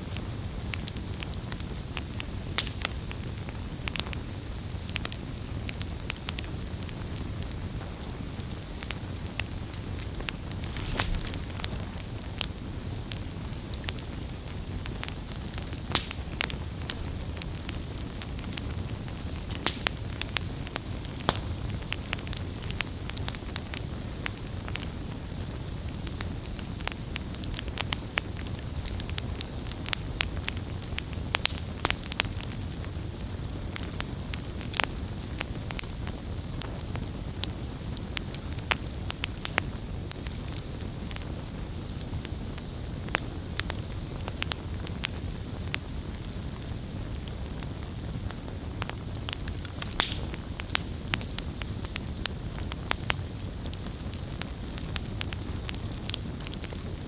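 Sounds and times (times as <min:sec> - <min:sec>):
campfire crackling and popping: 0:00.0 - 0:57.0
low rush of flames: 0:00.1 - 0:35.9, 0:37.4 - 0:57.0.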